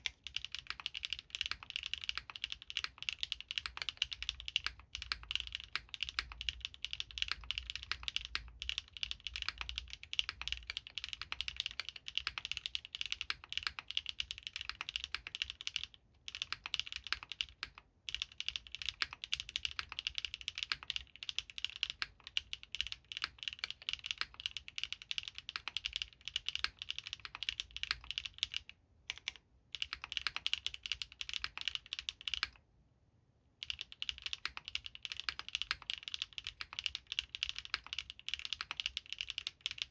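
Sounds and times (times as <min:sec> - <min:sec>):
mechanical keyboard typing: 0:00.0 - 0:32.6, 0:33.6 - 0:39.9.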